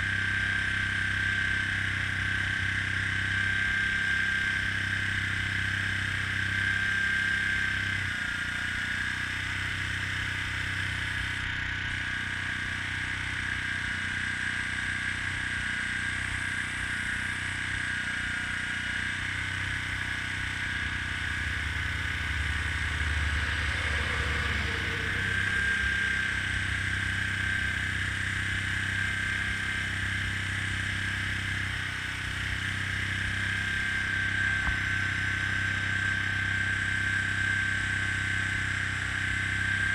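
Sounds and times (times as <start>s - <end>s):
airbrush compressor humming and whining: 0.0s - 39.9s.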